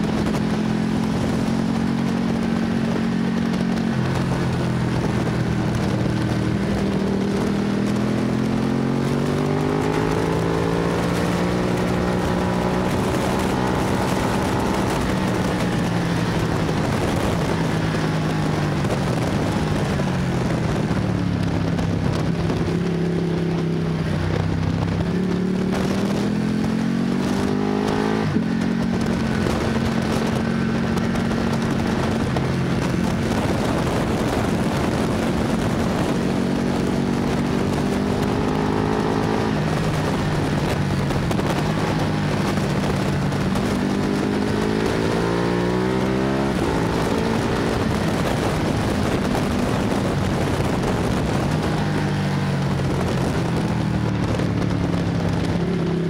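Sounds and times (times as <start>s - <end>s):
motorcycle engine accelerating: 0.0s - 56.0s
wind noise: 0.0s - 56.0s.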